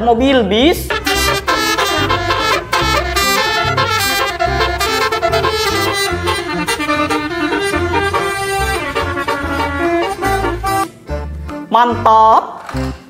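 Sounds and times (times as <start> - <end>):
steady bass line: 0.7 - 12.4
upbeat jazzy music with horns: 0.8 - 12.1.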